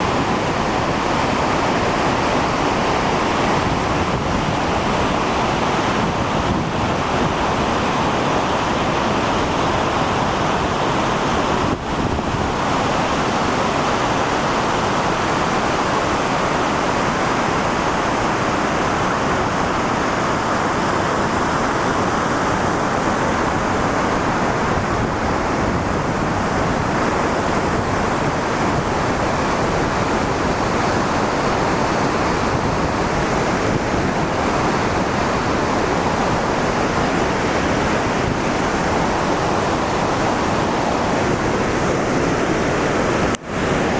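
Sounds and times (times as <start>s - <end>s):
waterfall crashing: 0.0s - 43.9s.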